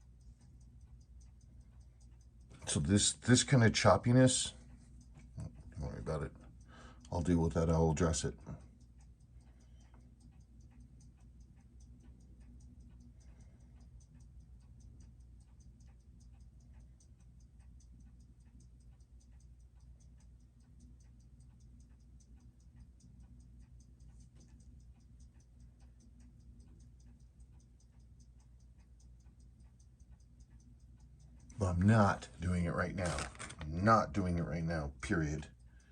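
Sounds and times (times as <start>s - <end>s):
low steady hum: 0.0s - 35.9s
watch ticking rapidly: 0.0s - 35.9s.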